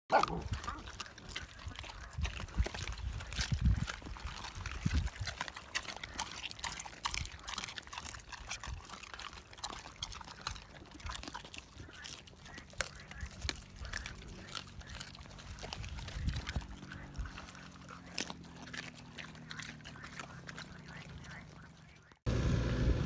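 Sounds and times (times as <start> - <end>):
dogs chewing raw meat: 0.1 - 22.3.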